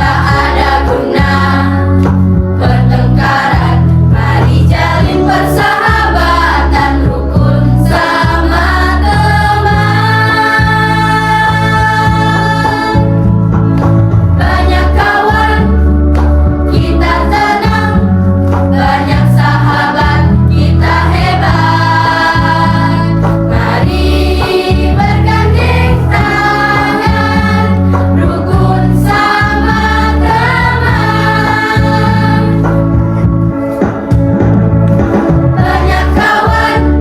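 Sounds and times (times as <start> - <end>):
choir singing: 0.0 - 1.9, 2.6 - 13.0, 14.4 - 15.8, 16.7 - 18.1, 18.7 - 32.7, 35.6 - 37.0
sustained keyboard chords: 0.0 - 37.0.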